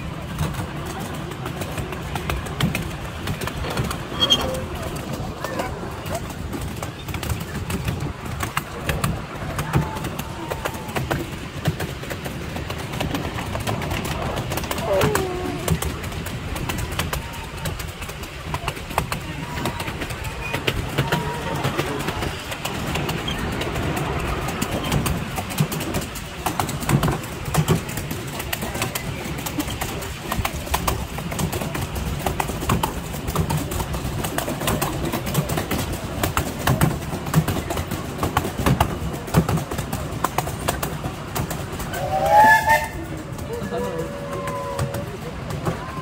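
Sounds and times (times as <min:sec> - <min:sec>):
sharp clicks from rails: 0:00.0 - 0:46.0
wheels rumbling on track: 0:00.0 - 0:46.0.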